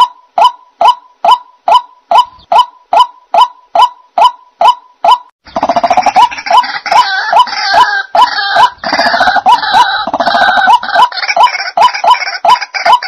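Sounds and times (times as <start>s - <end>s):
bird harsh croaking calls: 0.0s - 13.0s.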